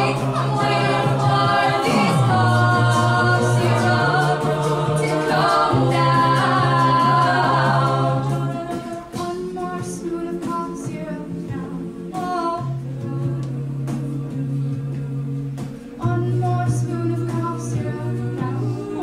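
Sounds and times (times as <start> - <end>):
a cappella group singing: 0.0 - 19.0.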